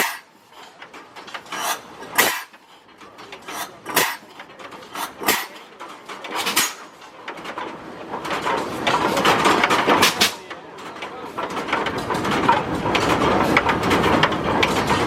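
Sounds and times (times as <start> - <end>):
metallic clanks and knocks: 0.0 - 15.0.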